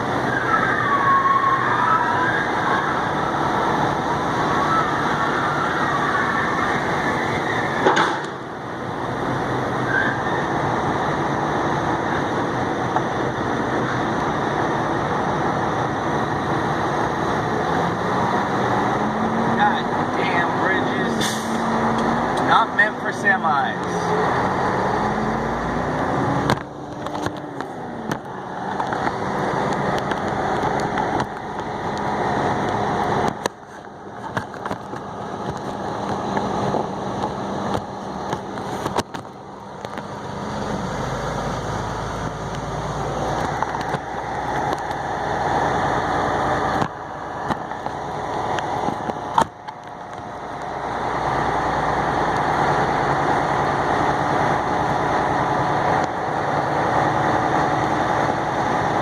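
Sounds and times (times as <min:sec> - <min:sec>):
road noise: 0:00.0 - 0:59.0
truck engine: 0:00.0 - 0:59.0.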